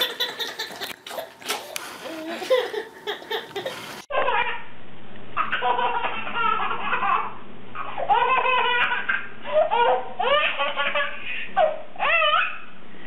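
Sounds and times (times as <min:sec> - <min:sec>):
baby laughing: 0:00.0 - 0:04.6, 0:05.4 - 0:12.6.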